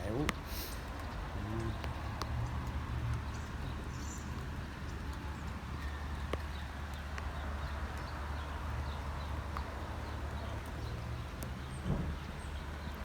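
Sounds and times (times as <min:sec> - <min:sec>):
rain dripping and tapping: 0:00.0 - 0:13.0.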